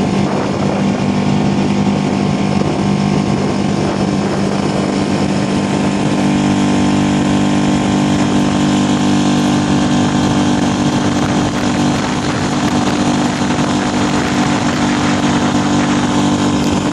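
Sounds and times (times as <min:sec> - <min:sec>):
outboard motor running: 0:00.0 - 0:16.9.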